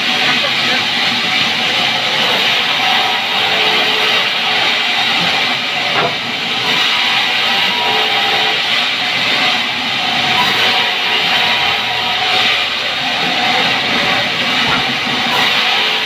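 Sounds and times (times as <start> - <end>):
band saw cutting log: 0.0 - 16.0.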